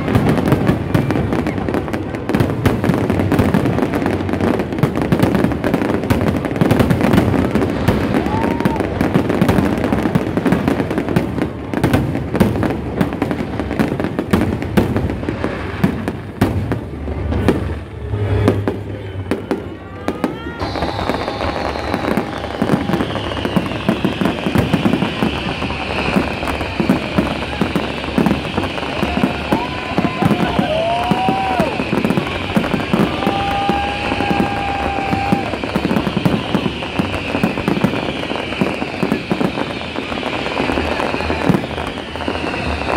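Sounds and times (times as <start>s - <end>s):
fireworks booms and crackles: 0.0s - 42.9s.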